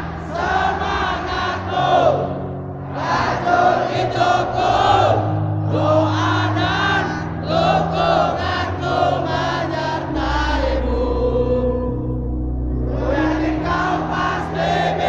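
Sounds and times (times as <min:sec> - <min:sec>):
stadium crowd singing in unison: 0:00.0 - 0:15.0.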